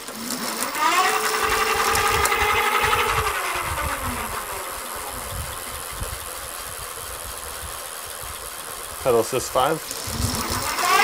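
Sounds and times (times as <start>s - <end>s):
electric hub motor whine: 0.0s - 11.0s.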